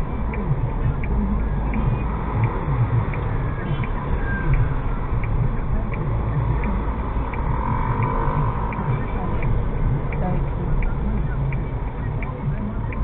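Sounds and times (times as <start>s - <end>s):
car engine and road rumble: 0.0s - 13.0s
turn signal ticking: 0.0s - 13.0s.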